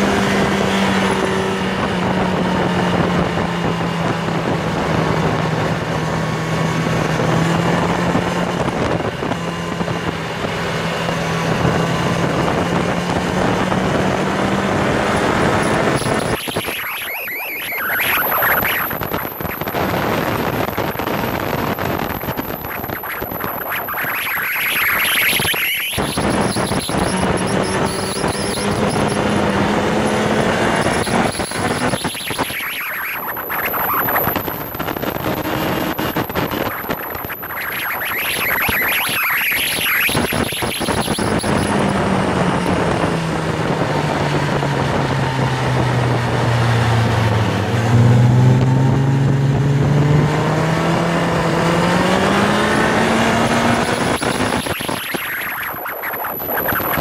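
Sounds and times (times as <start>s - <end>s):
motorcycle engine droning: 0.0s - 57.0s
wind rushing over microphone: 0.0s - 57.0s.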